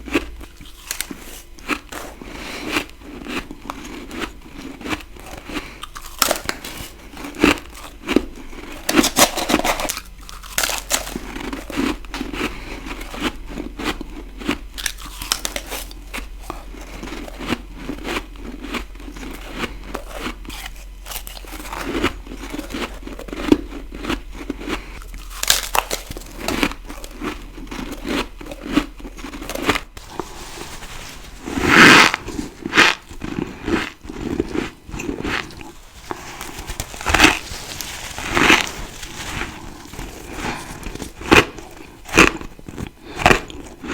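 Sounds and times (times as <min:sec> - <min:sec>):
ice crunching while chewed: 0:00.0 - 0:43.9.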